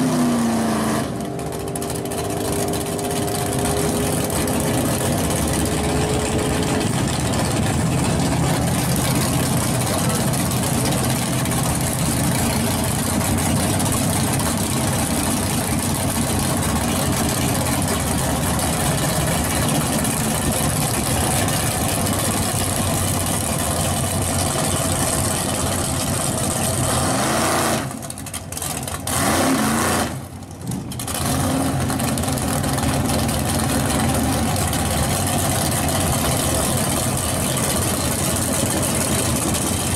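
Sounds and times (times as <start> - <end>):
car engine running loudly: 0.0 - 39.9.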